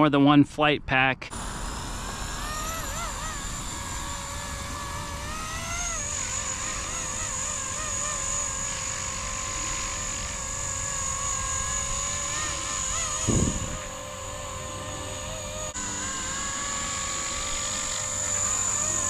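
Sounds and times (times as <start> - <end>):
rc helicopter motor whine: 1.3 - 19.0
rotor blades: 1.3 - 19.0.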